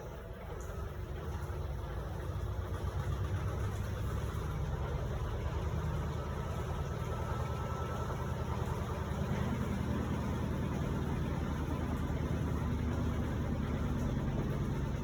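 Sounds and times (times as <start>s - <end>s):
washing machine hum and rumble: 0.0s - 15.0s.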